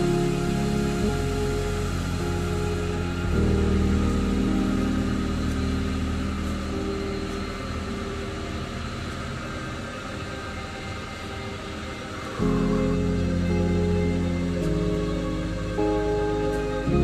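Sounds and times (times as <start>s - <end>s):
sustained music chord: 0.0s - 17.0s.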